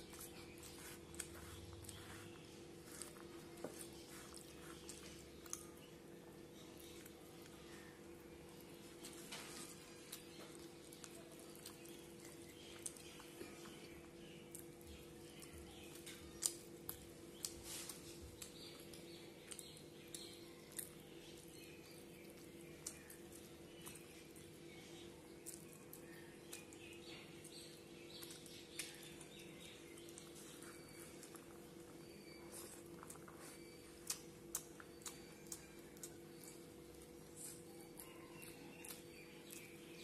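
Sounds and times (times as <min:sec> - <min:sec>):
chewing and mouth clicks: 0:00.0 - 0:06.0, 0:06.6 - 0:40.0
faint steady hum: 0:00.0 - 0:40.0.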